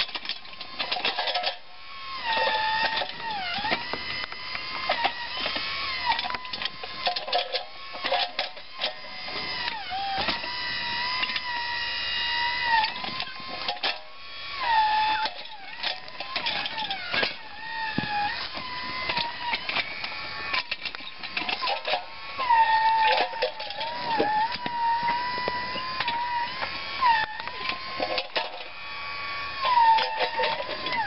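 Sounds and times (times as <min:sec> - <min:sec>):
bucket digging into dirt: 0:00.0 - 0:11.6, 0:12.2 - 0:28.8, 0:29.6 - 0:31.0
electric motor whining: 0:00.0 - 0:31.0.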